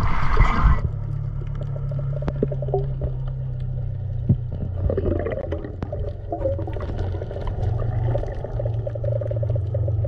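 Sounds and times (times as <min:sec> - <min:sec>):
muffled underwater gurgling: 0:00.0 - 0:10.0
underwater low hum: 0:00.0 - 0:10.0.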